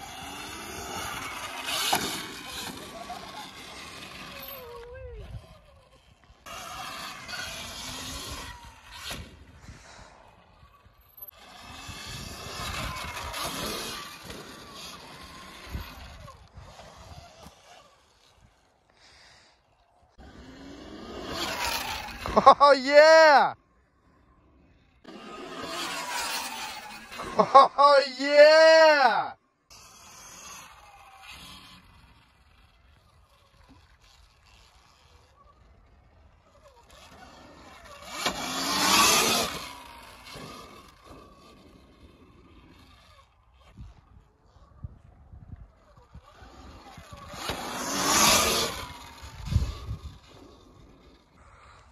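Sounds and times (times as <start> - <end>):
electric dirt bike motor whining: 0.0 - 51.9
tyres on dirt: 0.0 - 51.9.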